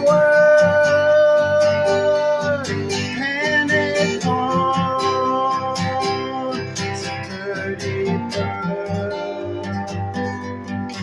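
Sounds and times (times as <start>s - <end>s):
strummed guitar: 0.0s - 11.0s.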